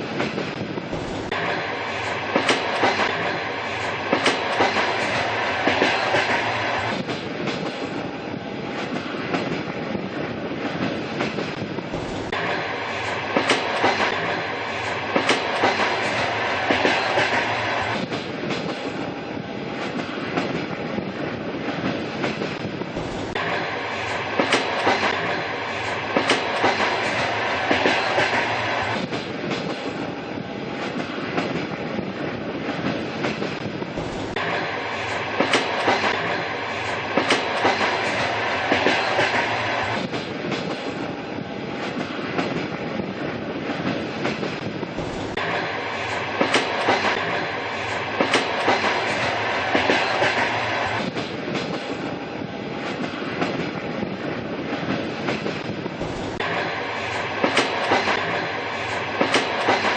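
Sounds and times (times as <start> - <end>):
train rattling: 0.0 - 59.9
train wheels clickety-clack: 0.0 - 59.9.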